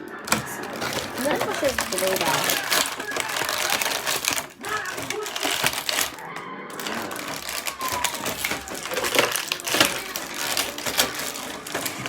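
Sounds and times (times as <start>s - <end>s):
plastic packaging crinkling: 0.0s - 12.0s
small clicks and snaps: 0.0s - 12.0s.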